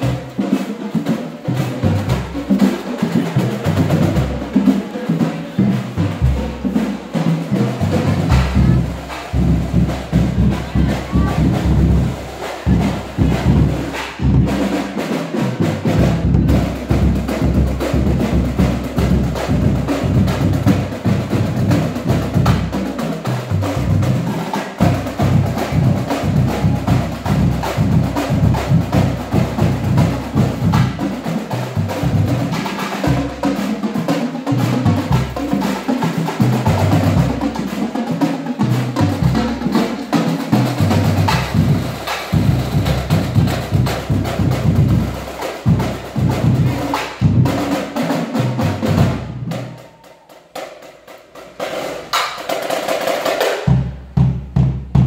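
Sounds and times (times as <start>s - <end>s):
marching drumline playing: 0.0s - 55.0s.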